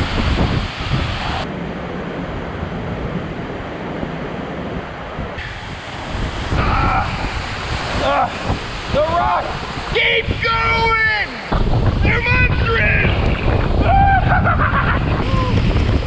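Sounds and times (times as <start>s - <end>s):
waterfall rushing: 0.0s - 2.6s, 5.4s - 16.0s
wind buffeting microphone: 0.0s - 16.0s.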